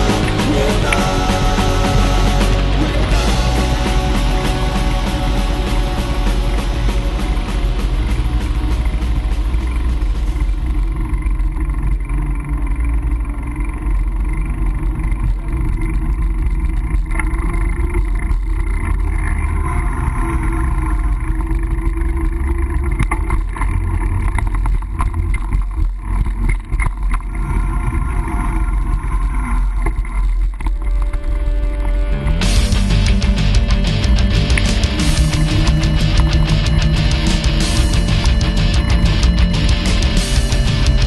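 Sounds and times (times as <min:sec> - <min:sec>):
mountain bike ride rumble: 0:00.0 - 0:41.0.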